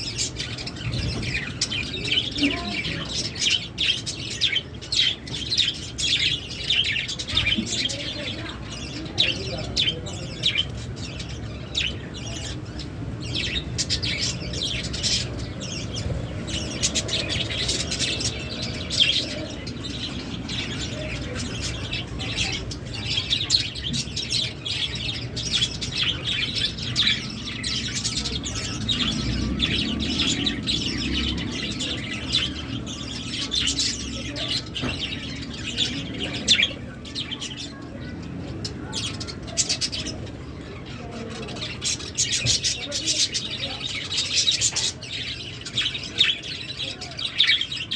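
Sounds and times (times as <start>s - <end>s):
lovebirds chirping: 0.0s - 47.9s.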